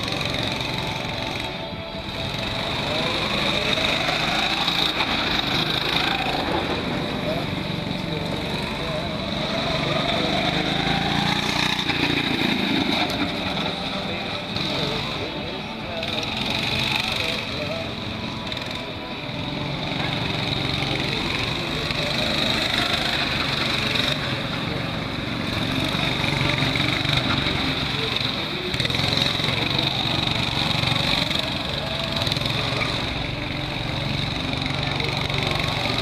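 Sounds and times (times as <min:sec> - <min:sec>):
go-kart engine running: 0:00.0 - 0:36.0
high-pitched whine: 0:00.0 - 0:36.0.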